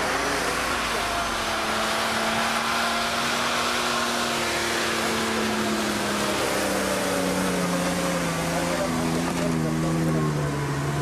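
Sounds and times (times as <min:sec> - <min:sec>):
car engine running with whine: 0:00.0 - 0:11.0.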